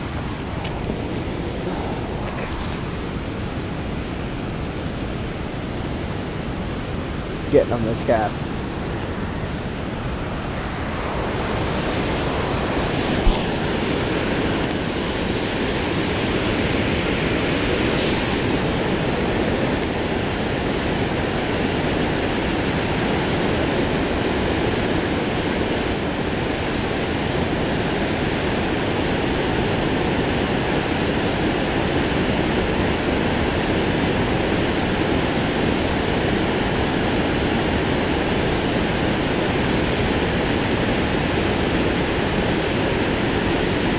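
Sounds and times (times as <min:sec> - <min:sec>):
river rushing through a dam: 0:00.0 - 0:43.9.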